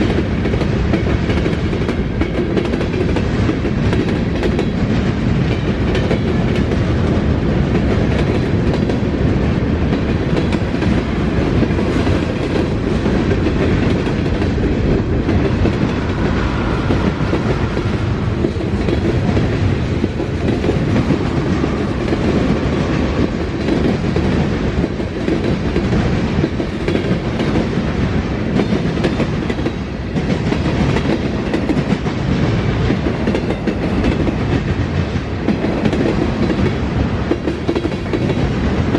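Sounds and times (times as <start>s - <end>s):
freight train rolling by: 0.0s - 38.9s.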